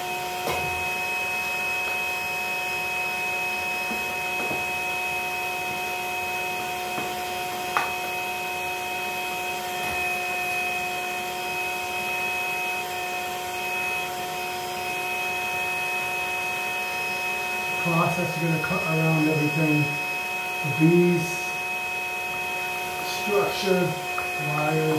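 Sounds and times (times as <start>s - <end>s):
vacuum motor whining: 0.0s - 24.9s.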